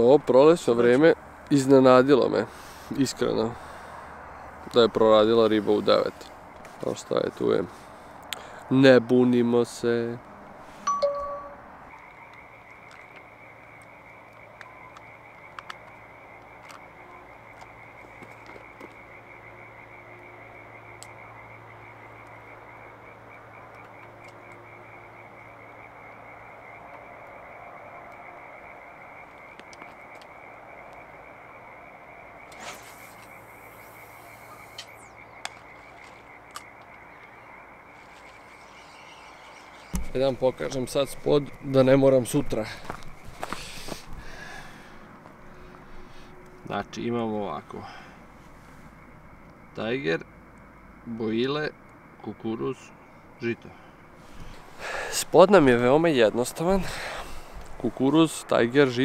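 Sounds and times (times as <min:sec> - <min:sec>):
frogs calling in chorus: 0:11.6 - 0:59.0.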